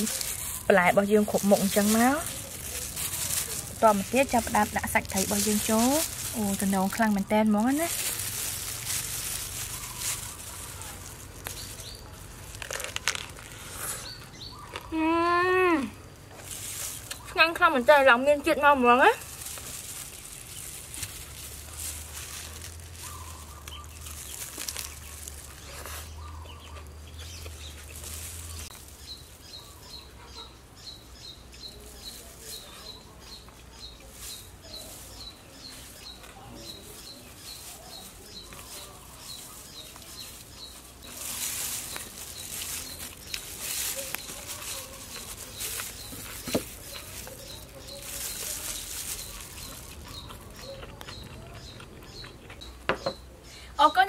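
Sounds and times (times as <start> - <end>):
plastic gloves crinkling: 0.0 - 30.2, 31.6 - 51.3.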